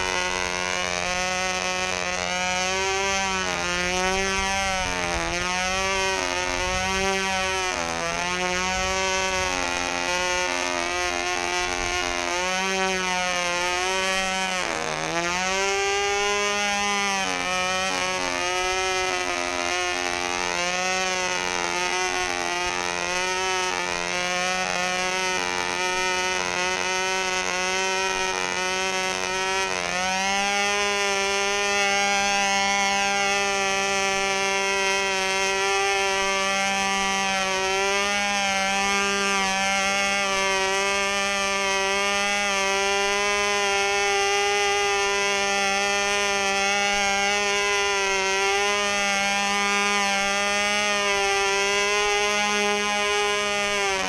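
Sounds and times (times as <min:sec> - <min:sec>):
model plane engine buzzing whine: 0:00.0 - 0:54.0.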